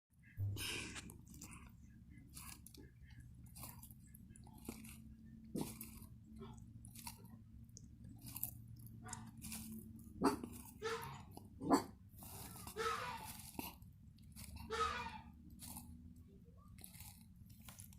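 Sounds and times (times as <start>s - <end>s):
tortoise crunching food: 0.6s - 17.9s.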